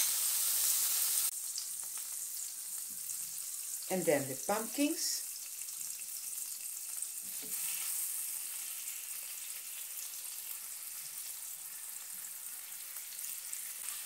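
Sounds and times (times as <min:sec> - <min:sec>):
marinade sizzling in a grill pan: 0:00.0 - 0:14.0.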